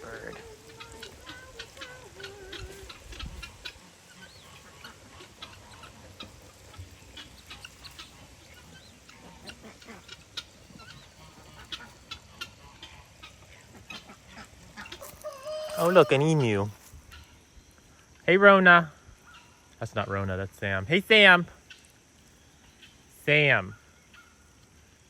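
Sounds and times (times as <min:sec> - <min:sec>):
poultry chirping and clucking: 0:00.0 - 0:18.1, 0:21.6 - 0:23.1, 0:23.7 - 0:25.0.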